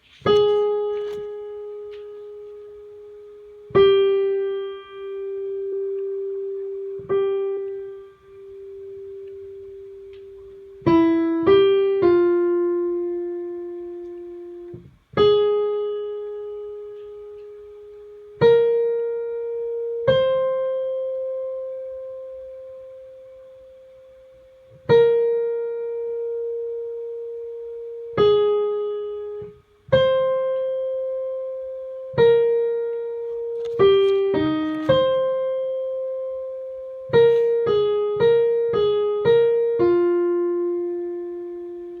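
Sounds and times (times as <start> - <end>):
piano playing slow held notes: 0.0 - 42.0.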